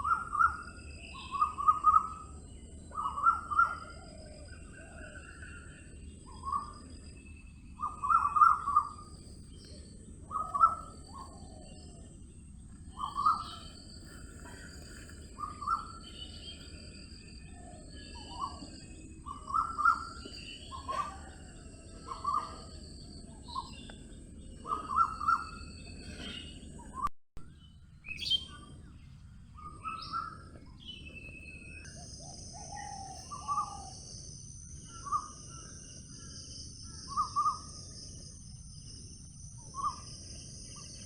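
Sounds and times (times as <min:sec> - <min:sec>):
birds twittering faintly: 0:00.0 - 0:41.0.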